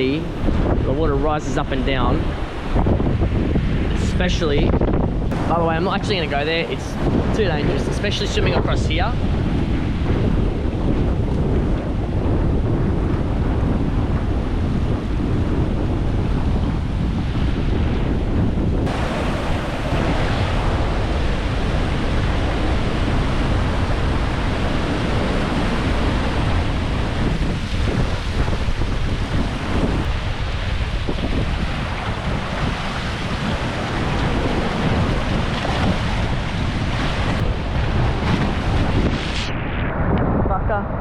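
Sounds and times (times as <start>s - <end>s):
ocean surf breaking: 0.0s - 40.1s
wind buffeting microphone: 0.0s - 41.0s.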